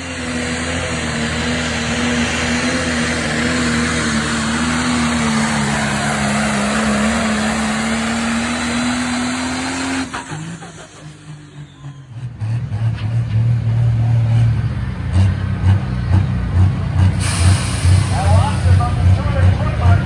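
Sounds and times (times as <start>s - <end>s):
diesel tractor engine roaring: 0.0s - 20.0s.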